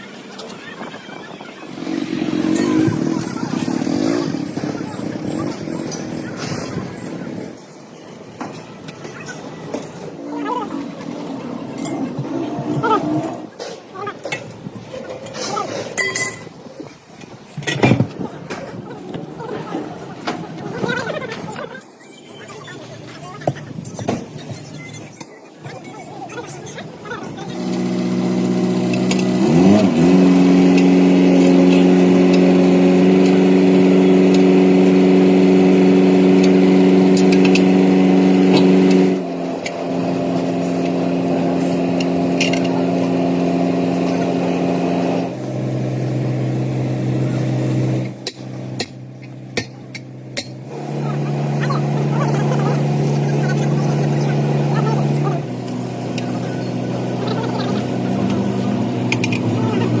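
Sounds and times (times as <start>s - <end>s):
engine running: 0.0s - 21.7s, 26.8s - 60.0s.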